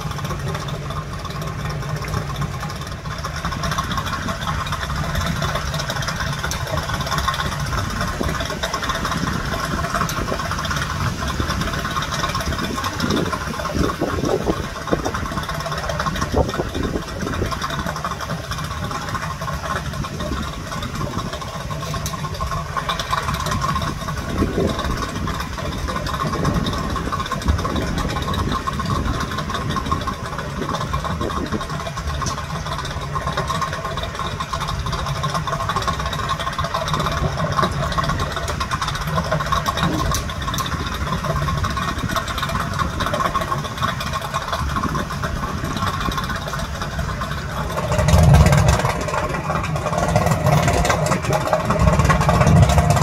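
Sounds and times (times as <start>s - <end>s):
outboard motors idling: 0.0s - 53.0s.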